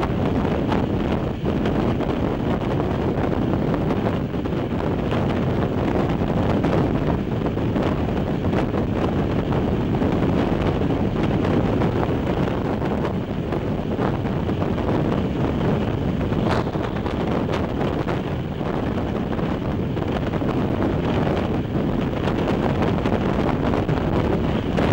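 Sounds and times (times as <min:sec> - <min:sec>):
train wheels rumbling on rails: 0:00.0 - 0:24.9
wind rushing over microphone: 0:00.0 - 0:24.9.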